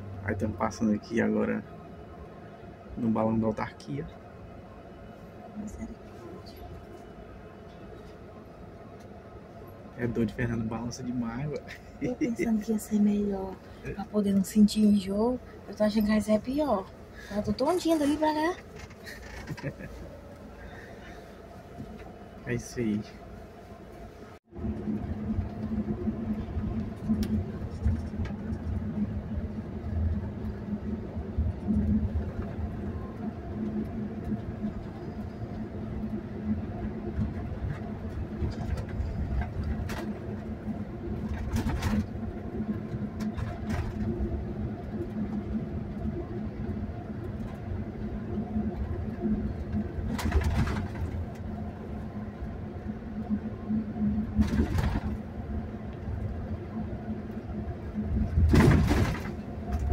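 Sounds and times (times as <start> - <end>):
coach engine and road drone: 0.0 - 59.9.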